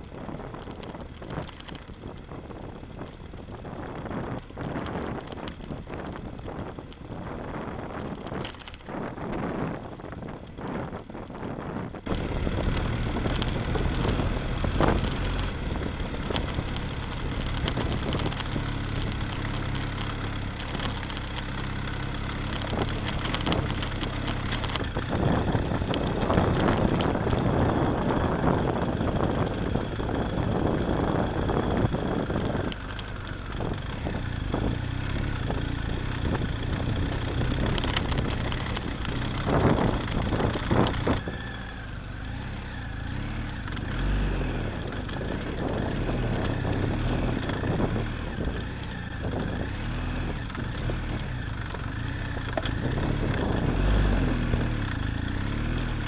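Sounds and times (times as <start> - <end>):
motorcycle engine running: 0.0 - 56.0
wind and tyre noise: 0.0 - 56.0.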